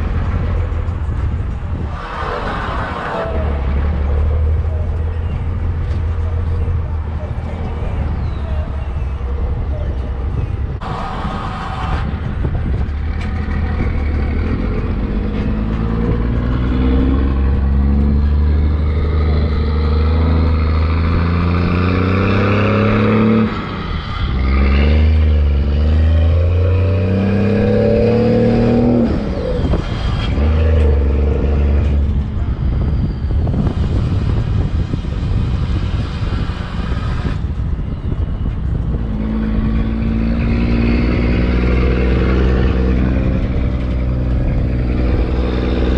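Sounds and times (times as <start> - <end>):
diesel engine accelerating through gears: 0.0 - 45.9.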